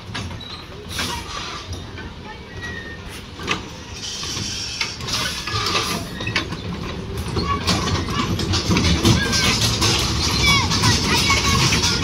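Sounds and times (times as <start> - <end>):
clatters of turning cars: 0.0 - 12.0
ride mechanical rumble: 0.0 - 12.0.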